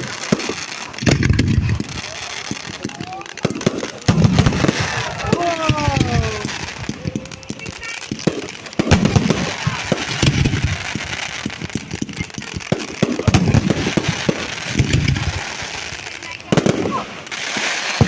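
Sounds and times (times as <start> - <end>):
fireworks bangs and crackling: 0.0 - 18.0
fireworks booming salvos: 0.0 - 18.0.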